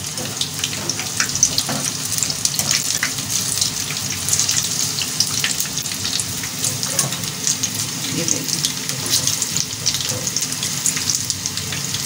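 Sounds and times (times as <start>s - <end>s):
deep-frying sizzle with pops: 0.0s - 12.0s.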